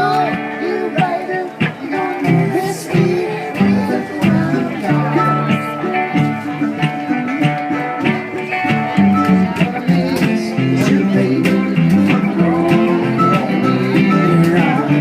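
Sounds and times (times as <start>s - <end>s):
mandolin: 0.0s - 15.0s
plucked guitar: 0.0s - 15.0s
conga drums: 1.0s - 15.0s.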